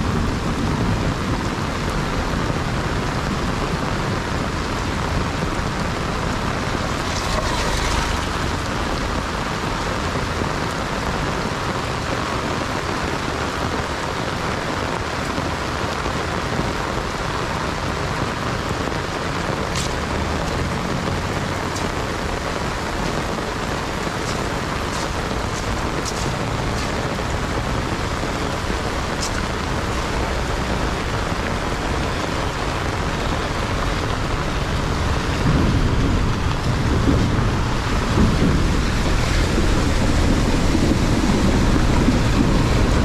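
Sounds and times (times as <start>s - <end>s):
rain falling: 0.0s - 43.0s
raindrops ticking: 0.1s - 43.0s.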